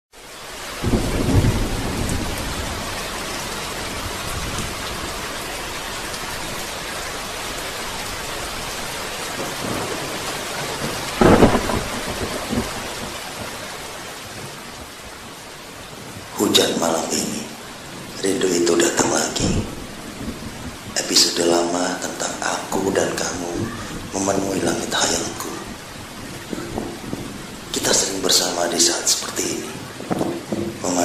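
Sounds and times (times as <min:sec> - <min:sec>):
rain falling: 0:00.1 - 0:31.0
thunder rumbling: 0:00.4 - 0:31.0.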